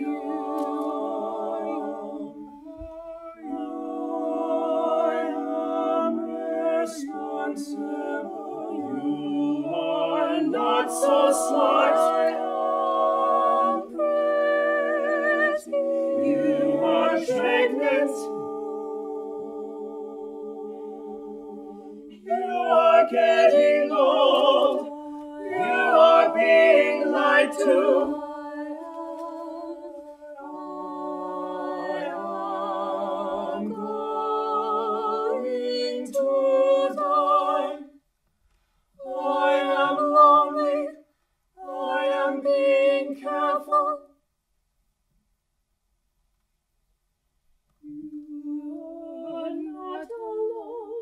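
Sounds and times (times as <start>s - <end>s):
mixed choir singing in harmony: 0.0s - 38.0s, 39.0s - 44.2s, 47.8s - 51.0s.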